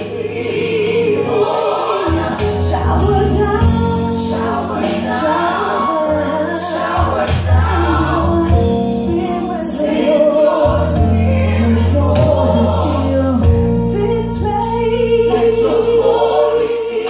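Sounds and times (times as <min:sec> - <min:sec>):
voices singing in harmony: 0:00.0 - 0:17.0
low sustained bass notes: 0:02.2 - 0:16.7.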